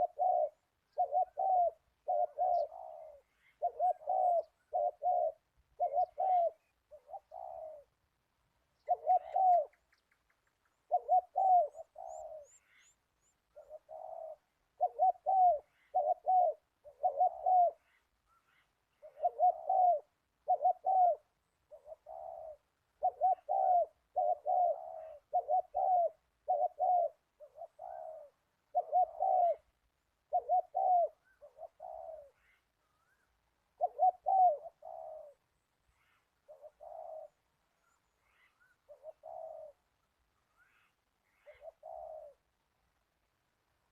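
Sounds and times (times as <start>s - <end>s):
dove cooing: 0.0s - 8.0s, 8.8s - 42.6s.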